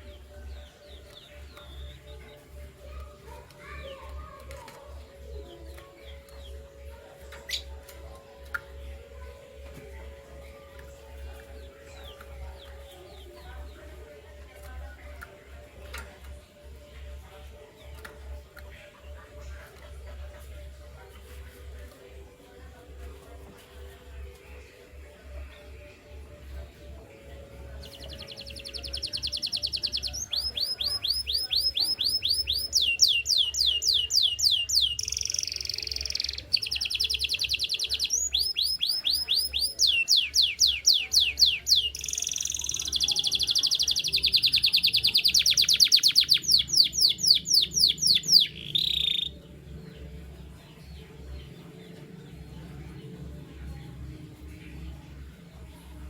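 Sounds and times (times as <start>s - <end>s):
canary singing trills: 0.0s - 22.1s, 22.9s - 56.0s.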